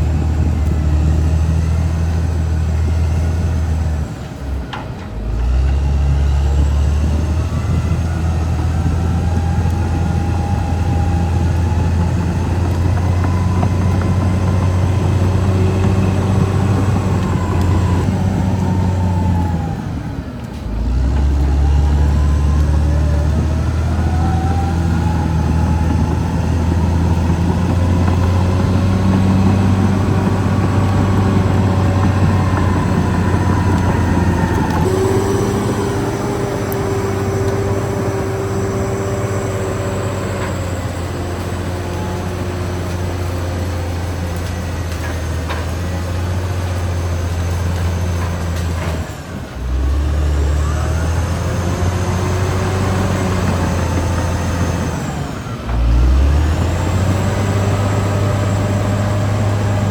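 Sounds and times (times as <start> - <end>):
bulldozer diesel engine droning: 0.0 - 59.9.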